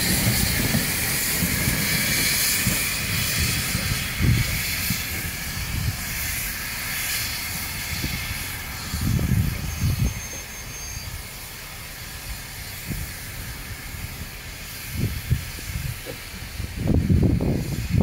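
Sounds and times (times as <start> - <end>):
steam locomotive hissing steam: 0.0 - 18.0.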